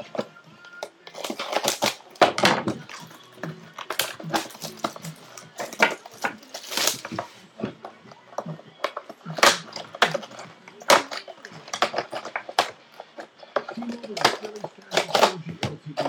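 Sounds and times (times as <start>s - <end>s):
plastic shrink-wrap crinkling and tearing: 0.8s - 7.3s, 8.2s - 16.0s.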